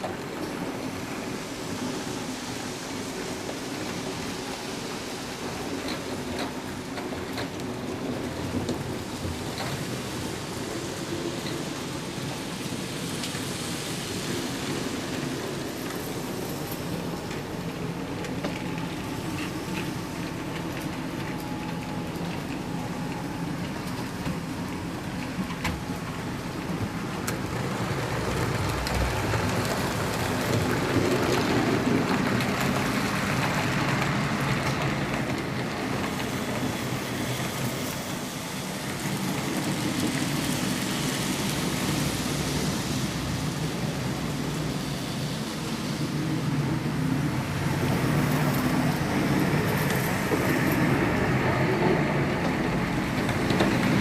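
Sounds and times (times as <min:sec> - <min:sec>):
model train wheels rumbling: 0:00.0 - 0:54.0.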